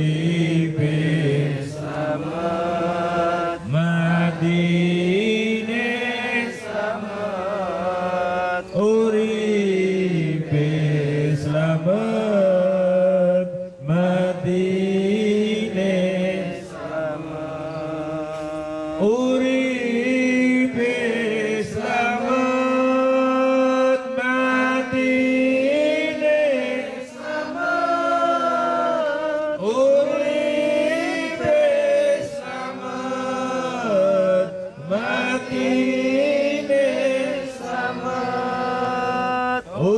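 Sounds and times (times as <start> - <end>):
man chanting into a microphone: 0.0 - 1.9, 2.6 - 27.2, 27.9 - 39.9.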